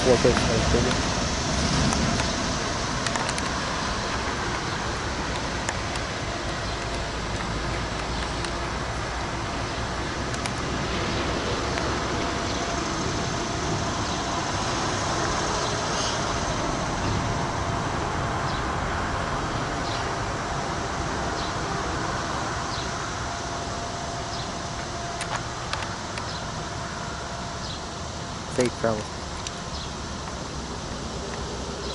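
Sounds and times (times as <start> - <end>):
train wheels rumbling on rail: 0.0 - 31.8.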